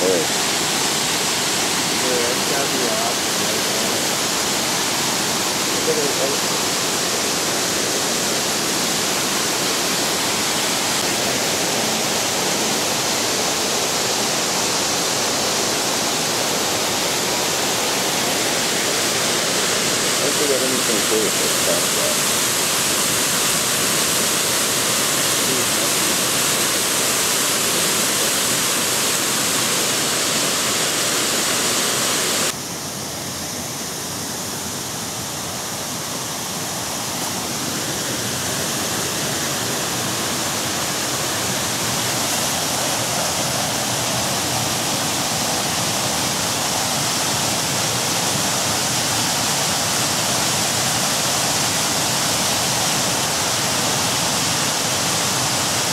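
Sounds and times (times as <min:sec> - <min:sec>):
rushing water: 0:00.0 - 0:55.9.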